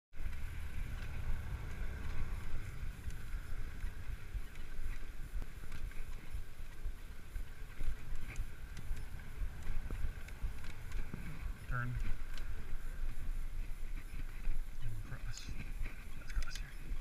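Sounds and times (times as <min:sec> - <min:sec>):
bicycle rolling on pavement: 0:00.1 - 0:17.0
wind buffeting microphone: 0:00.1 - 0:17.0
light ticks: 0:00.2 - 0:17.0.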